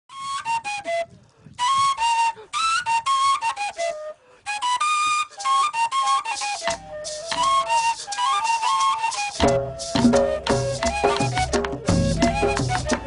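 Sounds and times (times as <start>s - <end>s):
flute-like melody: 0.1s - 13.0s.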